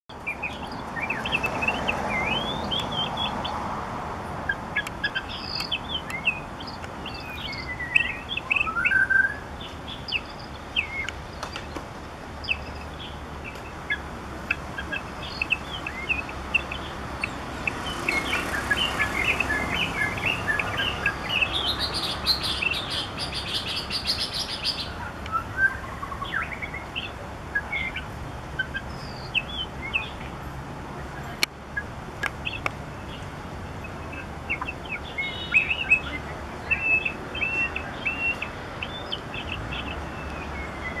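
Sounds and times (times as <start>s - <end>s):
songbird whistling song: 0.2s - 3.6s, 4.5s - 11.8s, 12.4s - 30.3s, 33.8s - 41.0s.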